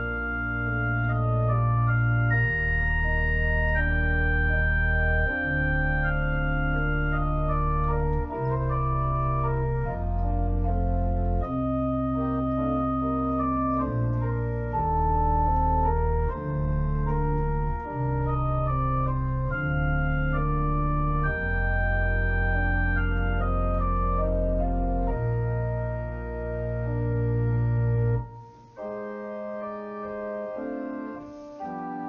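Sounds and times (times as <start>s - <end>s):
organ playing slow chords: 0.0s - 32.0s.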